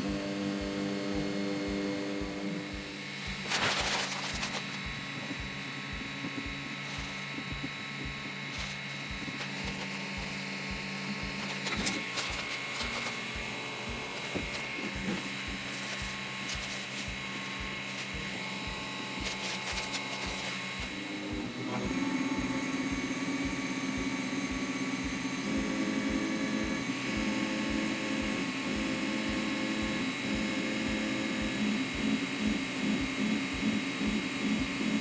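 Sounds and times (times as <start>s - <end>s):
fan whine: 0.0s - 35.0s
stepper motor tones: 0.0s - 35.0s.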